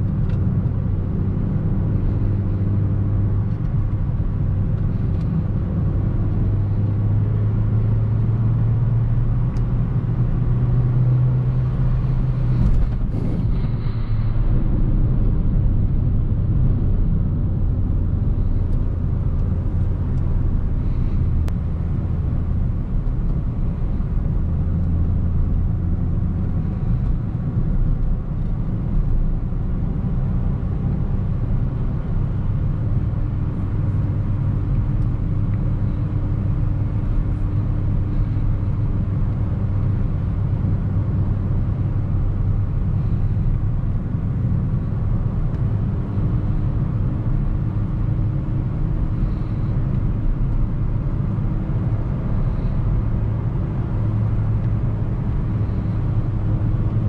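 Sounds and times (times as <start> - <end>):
car engine running: 0.0 - 57.0
road and tyre rumble: 0.0 - 57.0.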